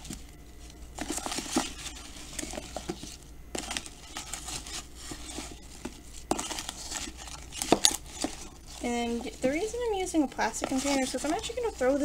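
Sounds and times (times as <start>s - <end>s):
spoon scraping plastic container: 1.1s - 12.0s.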